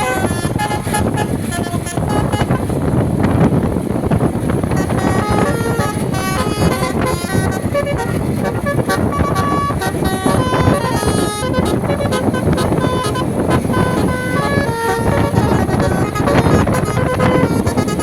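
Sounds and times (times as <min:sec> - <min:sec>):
multi-tone bus horn tune: 0:00.0 - 0:18.0
vehicle noise: 0:00.0 - 0:18.0.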